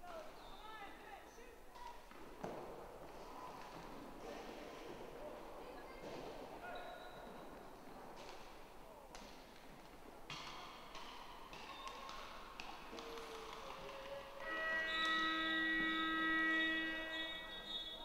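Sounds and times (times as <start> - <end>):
low background murmur: 0.0 - 18.0.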